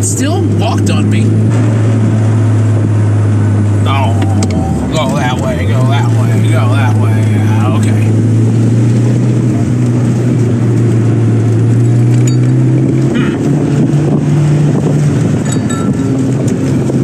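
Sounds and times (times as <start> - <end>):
car engine running from inside cabin: 0.0 - 17.0.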